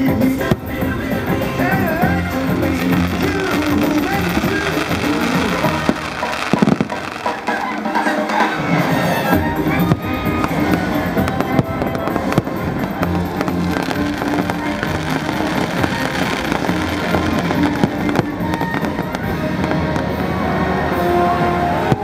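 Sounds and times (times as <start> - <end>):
fireworks bangs and crackling: 0.0 - 22.0
music soundtrack: 0.0 - 22.0.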